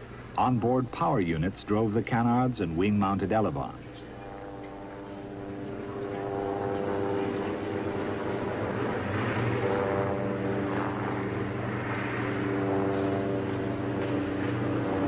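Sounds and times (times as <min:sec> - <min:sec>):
propeller engine running: 0:00.0 - 0:15.0.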